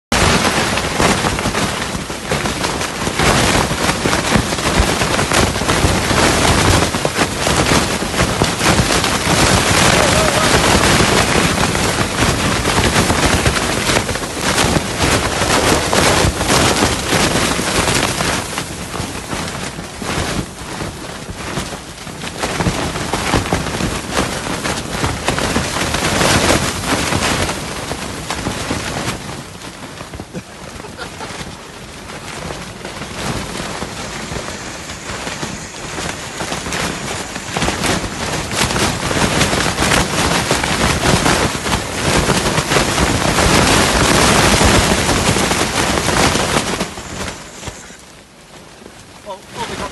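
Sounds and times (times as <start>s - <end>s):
tent fabric flapping: 0.1s - 49.9s
wind buffeting tent: 0.1s - 49.9s.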